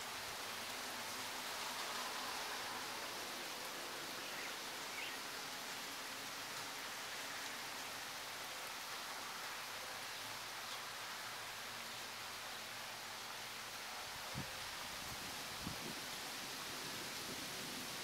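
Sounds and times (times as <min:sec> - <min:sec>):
steady outdoor storm hiss: 0:00.0 - 0:18.0.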